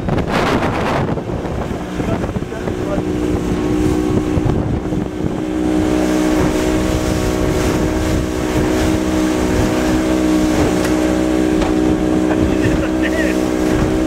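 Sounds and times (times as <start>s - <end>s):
boat engine running: 0.0s - 14.0s
wind rumbling on microphone: 0.0s - 14.0s.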